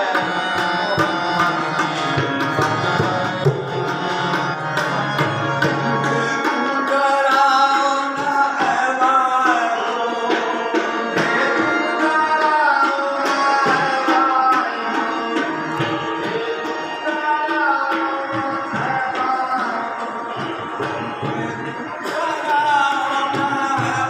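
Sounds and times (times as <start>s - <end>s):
harmonium: 0.0s - 24.0s
person singing: 0.0s - 24.0s.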